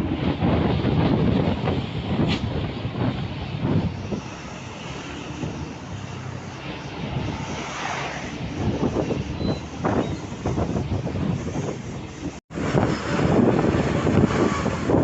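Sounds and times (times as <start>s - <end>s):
trucks rumbling on highway: 0.0s - 15.0s
wind buffeting microphone: 0.0s - 15.0s.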